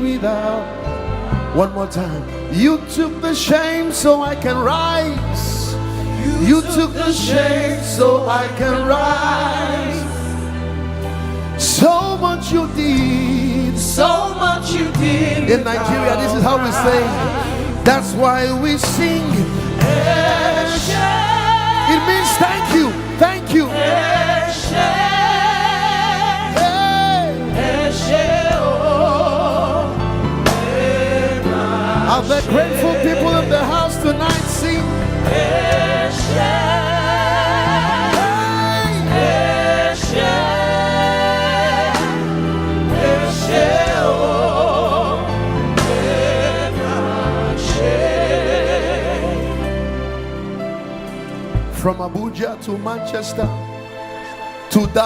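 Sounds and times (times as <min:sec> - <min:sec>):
band with bass and keyboard: 0:00.0 - 0:55.0
gospel singing with vibrato: 0:00.0 - 0:55.0
sustained instrumental accompaniment: 0:00.0 - 0:55.0.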